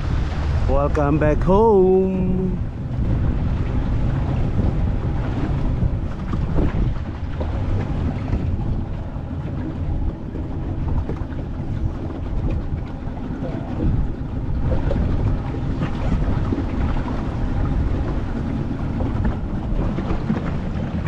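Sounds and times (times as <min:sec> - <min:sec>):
boat motor running: 0:00.0 - 0:21.0
water rushing past hull: 0:00.0 - 0:21.0
wind buffeting microphone: 0:00.0 - 0:21.0.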